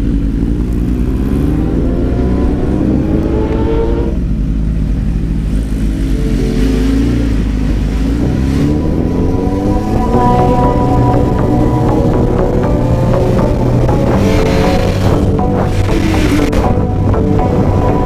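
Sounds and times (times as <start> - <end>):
motorcycle engine pulling away: 0.0 - 18.0.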